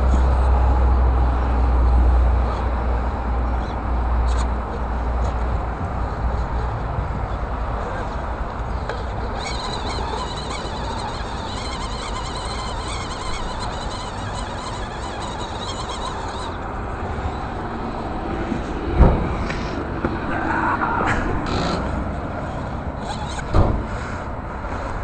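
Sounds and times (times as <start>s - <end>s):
electric motor and gears whining: 0.0s - 25.0s
low background rumble: 0.0s - 25.0s.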